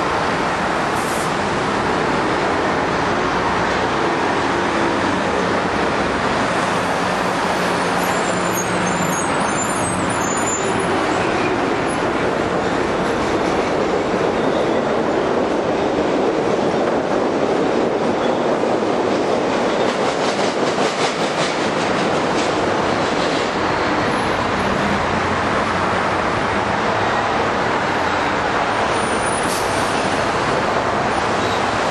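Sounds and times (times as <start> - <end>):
heavy traffic noise: 0.0 - 31.9.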